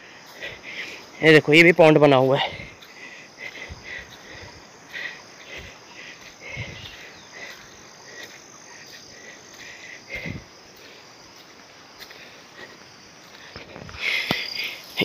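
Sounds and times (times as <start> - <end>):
faint frogs croaking: 0.0 - 15.0.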